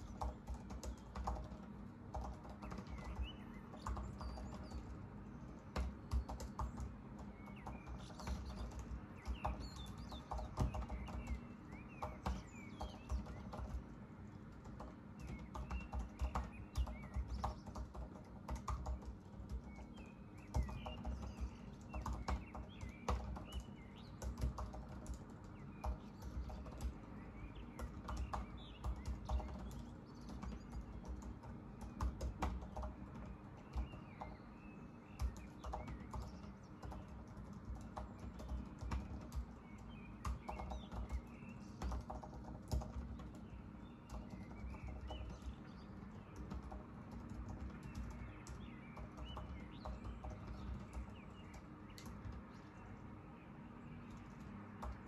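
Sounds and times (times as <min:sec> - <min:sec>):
bird chirps: 0:00.0 - 0:55.0.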